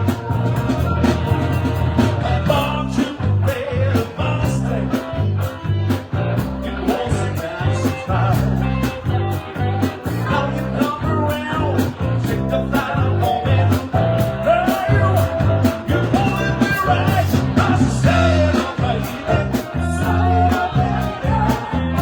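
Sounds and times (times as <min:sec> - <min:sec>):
bass line: 0:00.0 - 0:22.0
electric guitar: 0:00.0 - 0:22.0
live blues-rock band: 0:00.0 - 0:22.0.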